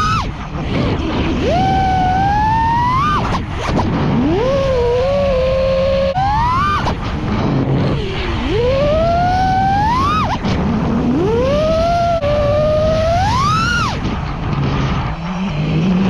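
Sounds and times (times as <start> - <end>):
drone motors whining: 0.0 - 16.0
rushing air: 0.0 - 16.0.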